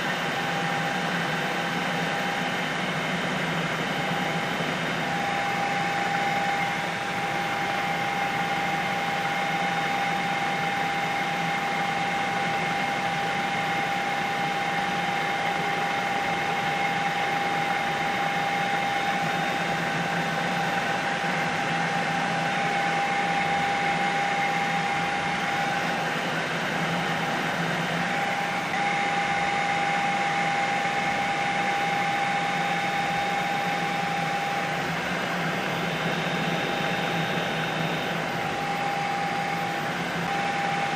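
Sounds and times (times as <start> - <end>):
helicopter cabin whine and drone: 0.0 - 40.9.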